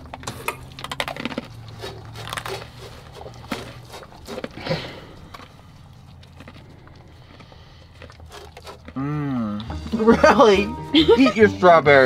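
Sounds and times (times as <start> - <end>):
person chewing crunchy kibble: 0.0 - 10.0.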